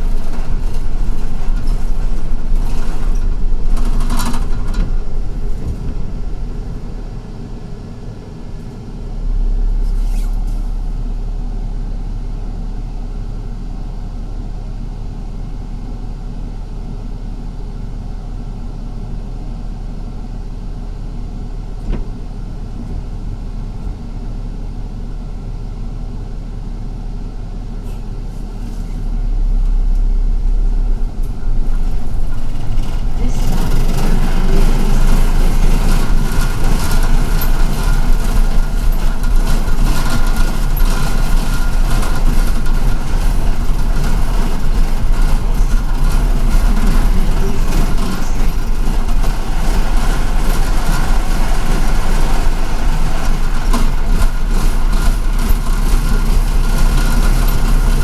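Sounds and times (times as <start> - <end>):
low hum: 0.0 - 18.6, 19.2 - 58.0
bus engine and road rumble: 0.0 - 58.0.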